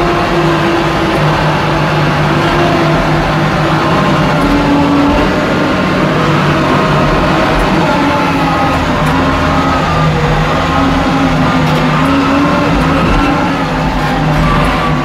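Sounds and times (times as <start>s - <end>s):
diesel engine running loudly: 0.0s - 15.0s.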